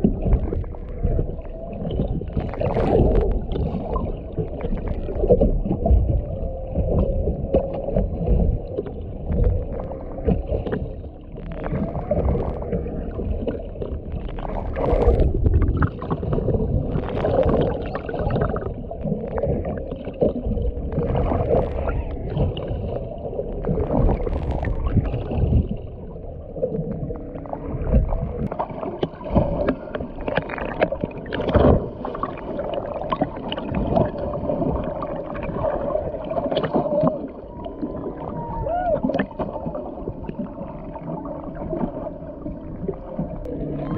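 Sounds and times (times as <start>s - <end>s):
faint underwater hum: 0.0s - 43.9s
underwater water sloshing and rumbling: 0.0s - 43.9s.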